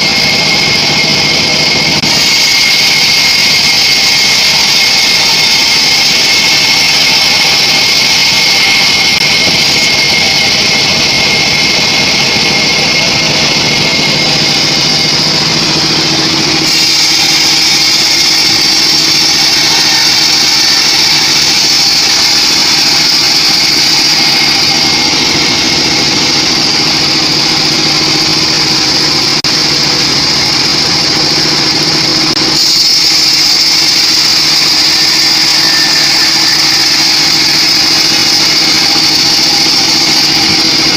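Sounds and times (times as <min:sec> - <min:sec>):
band sawmill sawing log: 0:00.0 - 0:40.9.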